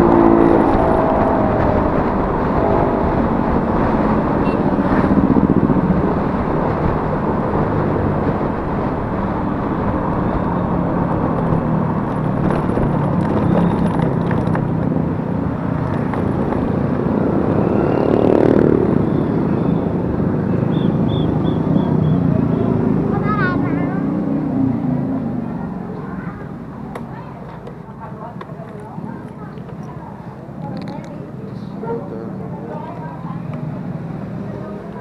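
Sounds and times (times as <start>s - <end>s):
road noise: 0.0s - 35.0s
scooter engine running: 0.0s - 35.0s.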